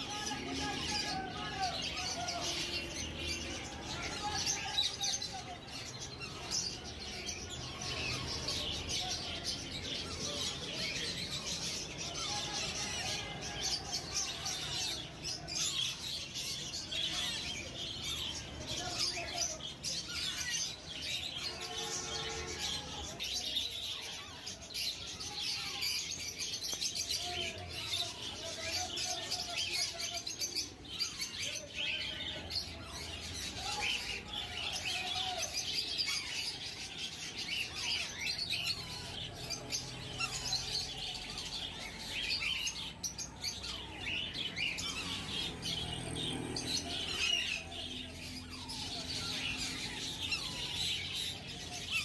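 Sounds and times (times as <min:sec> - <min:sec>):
parakeet chicks calling and chirping: 0:00.0 - 0:52.0.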